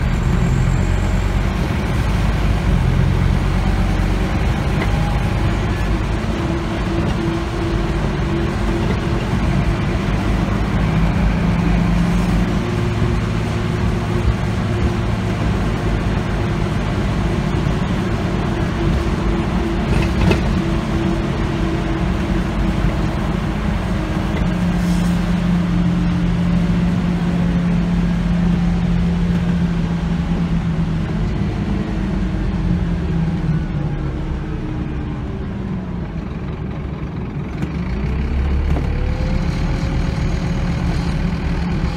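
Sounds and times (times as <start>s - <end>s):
bus diesel engine running: 0.0s - 41.9s
road noise: 0.0s - 41.9s.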